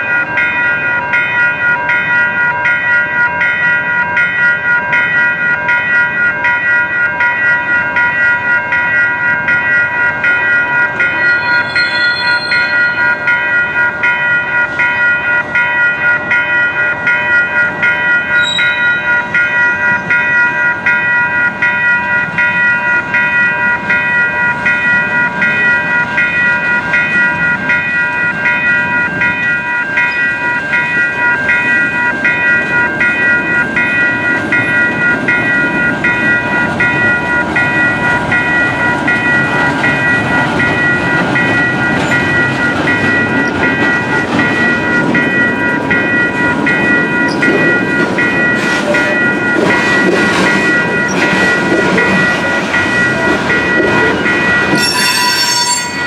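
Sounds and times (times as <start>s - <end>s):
freight train rumble: 0.0s - 56.0s
railroad crossing bell ringing: 0.0s - 56.0s.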